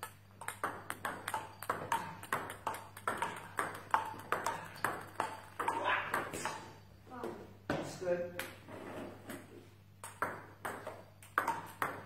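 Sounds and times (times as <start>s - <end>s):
table tennis ball hits: 0.0s - 8.6s, 9.3s - 12.0s.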